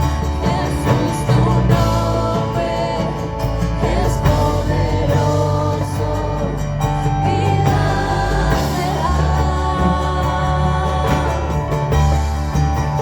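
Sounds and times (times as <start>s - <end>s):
sung vocals: 0.0s - 13.0s
worship band playing: 0.0s - 13.0s.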